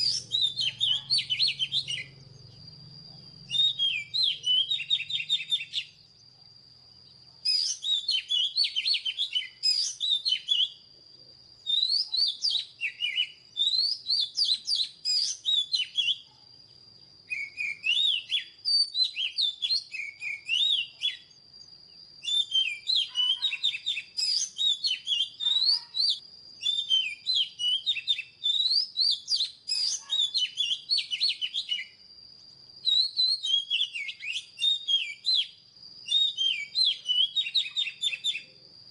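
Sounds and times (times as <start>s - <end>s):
magpie-robin singing: 0.0s - 2.3s, 3.4s - 6.0s, 7.4s - 10.8s, 11.6s - 16.4s, 17.3s - 21.3s, 22.2s - 31.9s, 32.8s - 38.6s.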